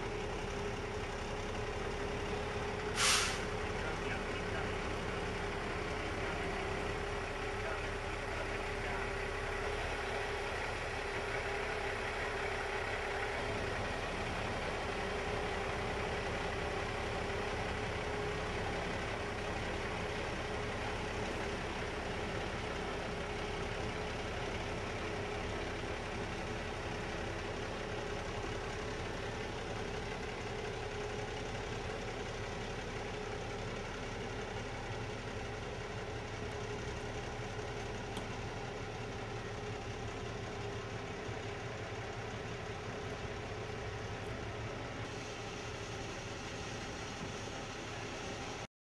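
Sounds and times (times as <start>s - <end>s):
diesel truck engine idling: 0.0s - 48.7s.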